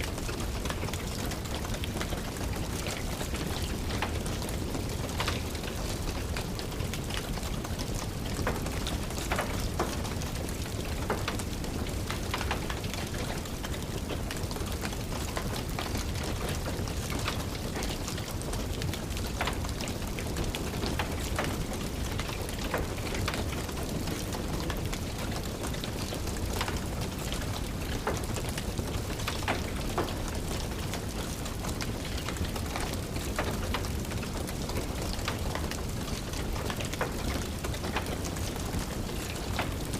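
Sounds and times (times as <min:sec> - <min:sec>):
steady rain hiss: 0:00.0 - 0:39.9
wood fire crackling: 0:00.1 - 0:39.9.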